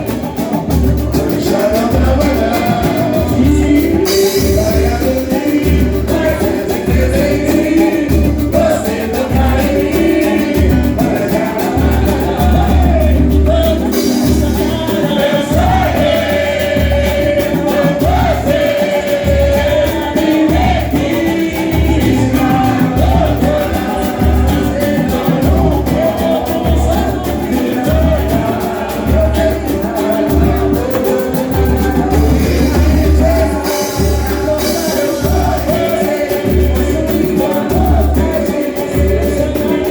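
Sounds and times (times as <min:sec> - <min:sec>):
person singing: 0:00.0 - 0:39.9
samba band playing: 0:00.0 - 0:39.9.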